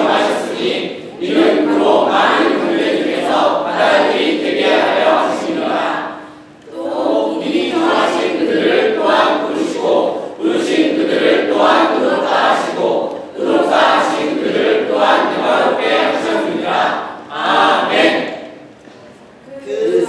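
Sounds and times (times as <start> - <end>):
group reciting in unison: 0.0 - 18.7.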